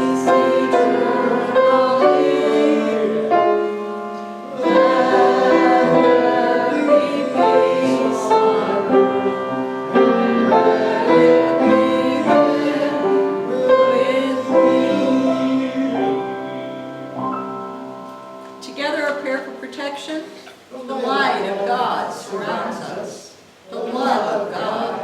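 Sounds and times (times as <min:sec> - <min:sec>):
several voices singing: 0:00.0 - 0:17.2, 0:20.6 - 0:25.0
piano accompaniment: 0:00.0 - 0:20.5.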